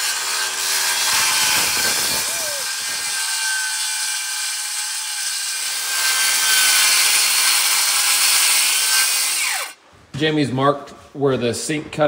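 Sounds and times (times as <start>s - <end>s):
circular saw cutting wood: 0.0s - 9.8s.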